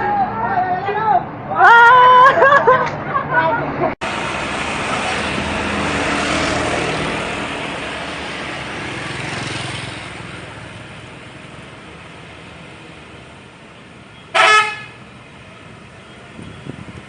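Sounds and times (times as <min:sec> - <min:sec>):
road vehicle passing: 0:00.0 - 0:17.0.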